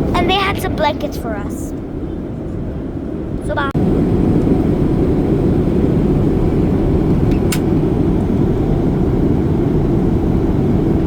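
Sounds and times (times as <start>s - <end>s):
airliner engines and airflow rumble: 0.0s - 11.0s.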